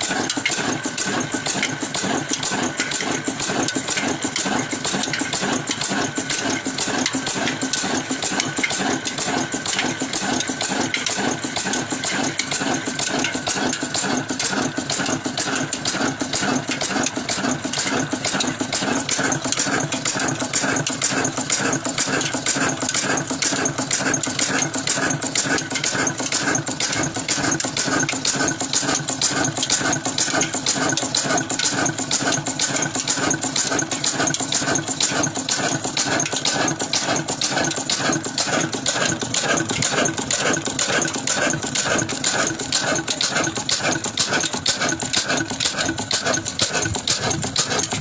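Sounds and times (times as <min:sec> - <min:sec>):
antique engine running: 0:00.0 - 0:48.0.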